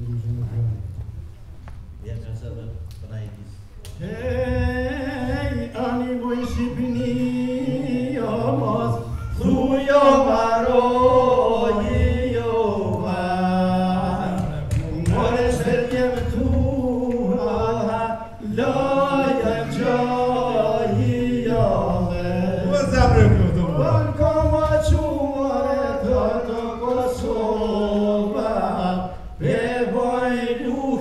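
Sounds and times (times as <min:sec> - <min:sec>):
group of men singing: 0:04.0 - 0:31.0.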